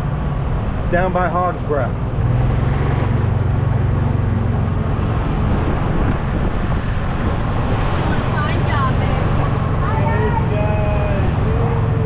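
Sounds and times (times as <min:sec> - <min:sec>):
golf cart driving: 0:00.0 - 0:12.0.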